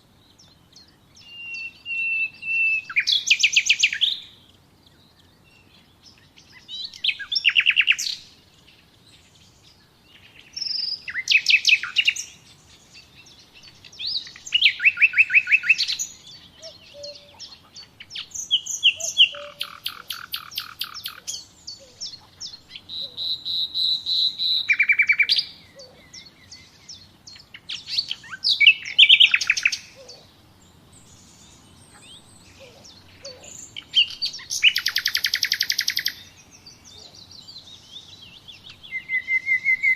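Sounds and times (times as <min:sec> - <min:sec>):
songbird trilling: 0:00.2 - 0:39.9.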